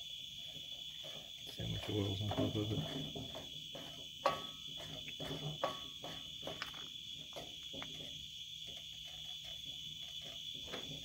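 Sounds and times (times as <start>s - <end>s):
crickets chirping: 0.0s - 11.0s
wooden spoon scraping skillet: 0.3s - 11.0s.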